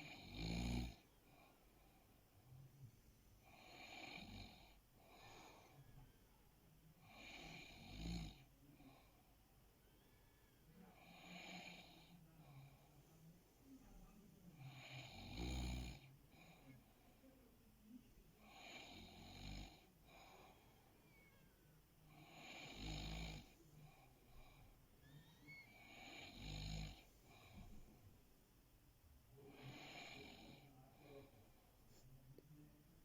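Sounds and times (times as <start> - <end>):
faint airy snoring: 0.0 - 6.3, 6.9 - 17.4, 18.4 - 21.4, 22.1 - 28.1, 29.4 - 32.8.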